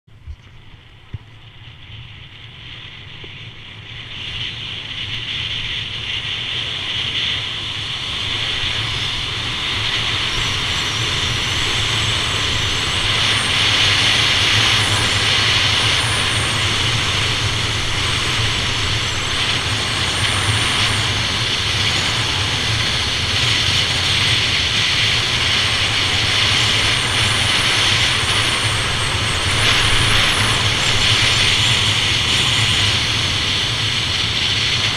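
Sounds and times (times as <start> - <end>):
wind rushing over microphone: 0.1 - 34.9.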